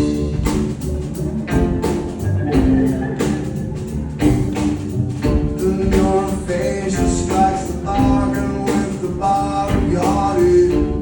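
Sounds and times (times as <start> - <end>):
live band music: 0.0 - 11.0.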